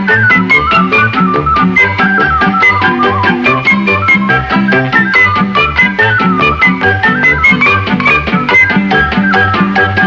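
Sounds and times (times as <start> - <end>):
upbeat music with bouncing bass: 0.0 - 10.0.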